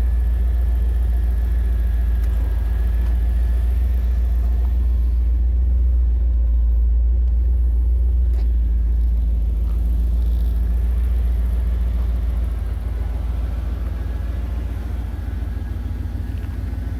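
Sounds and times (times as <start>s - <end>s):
car engine exhaust rumble: 0.0s - 16.9s.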